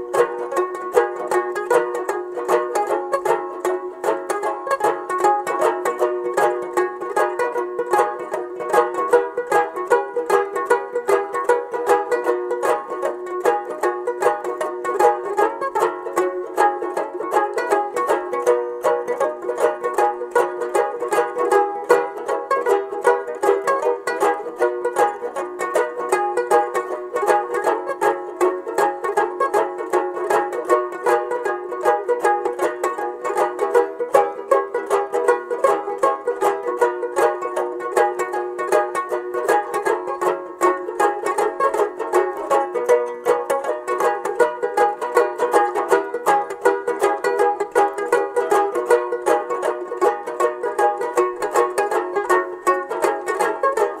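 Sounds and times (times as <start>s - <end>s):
fast plucked-string tune: 0.0s - 54.0s.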